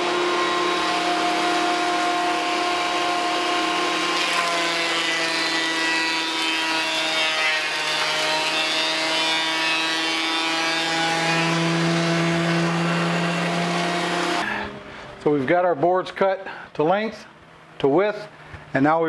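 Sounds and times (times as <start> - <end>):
thickness planer whining: 0.0 - 15.6.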